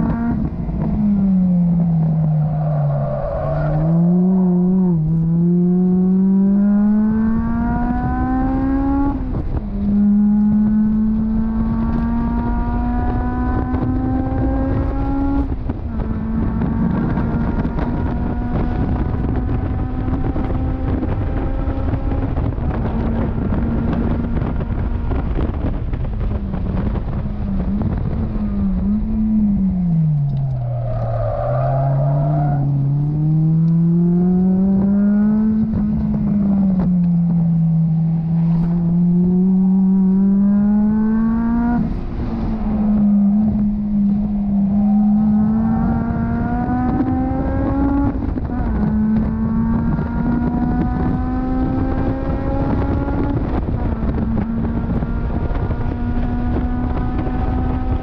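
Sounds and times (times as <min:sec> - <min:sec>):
car engine revving: 0:00.0 - 0:58.0
wind noise: 0:00.0 - 0:58.0.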